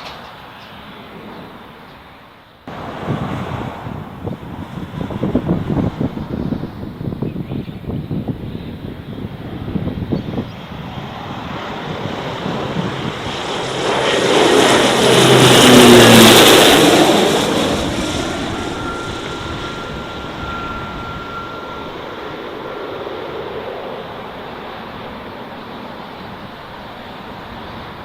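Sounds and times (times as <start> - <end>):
propeller aircraft flying past: 0.0 - 28.0
wind rumbling on microphone: 2.7 - 28.0.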